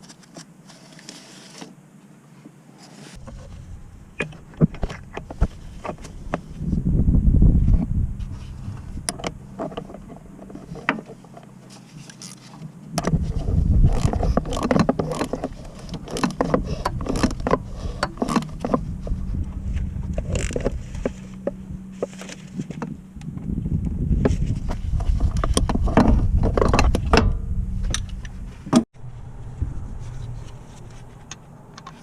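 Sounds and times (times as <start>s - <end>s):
steady low hum: 1.8s - 32.0s.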